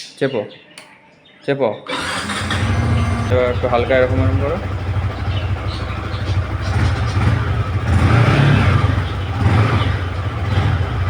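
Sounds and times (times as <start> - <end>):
engine throttle blips: 1.9 - 11.0
motorcycle engine running: 1.9 - 11.0.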